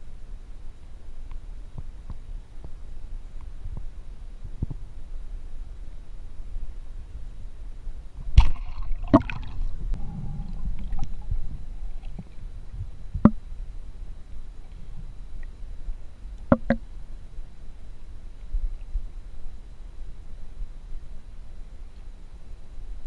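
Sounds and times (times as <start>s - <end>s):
low underwater rumble: 1.6s - 21.0s.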